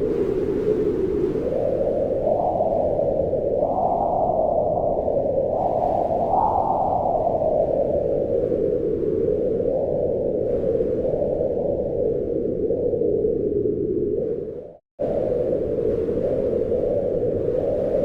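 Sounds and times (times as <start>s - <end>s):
wind blowing: 0.0s - 18.0s.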